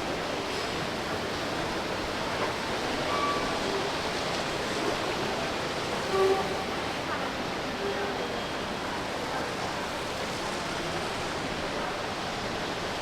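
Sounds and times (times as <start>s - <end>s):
shopping mall ambient noise: 0.0s - 13.0s.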